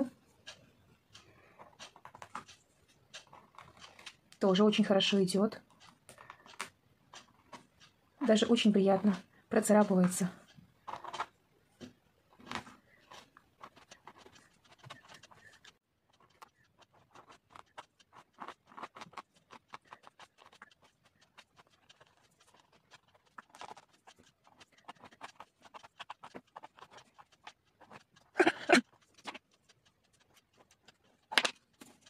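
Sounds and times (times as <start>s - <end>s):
toothpick scraping on paper: 0.4s - 11.3s, 12.4s - 32.0s.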